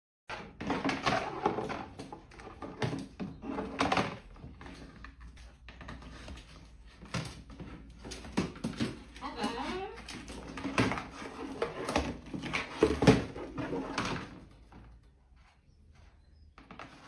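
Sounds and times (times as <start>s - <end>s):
plastic tray clattering: 0.3s - 14.9s.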